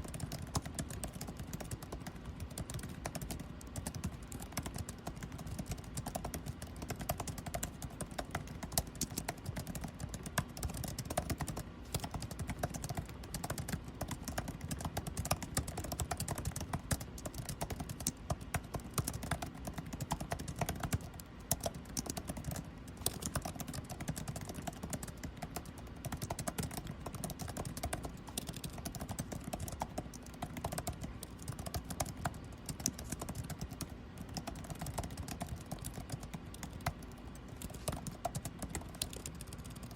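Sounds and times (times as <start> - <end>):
air conditioning hum: 0.0 - 39.9
rapid typing on keyboard: 0.0 - 39.9.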